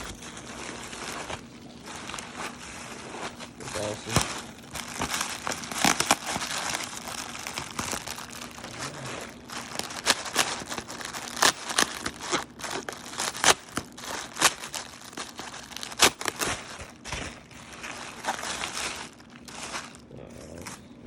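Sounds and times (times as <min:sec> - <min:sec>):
plastic wrap crinkling and tearing: 0:00.0 - 0:20.9.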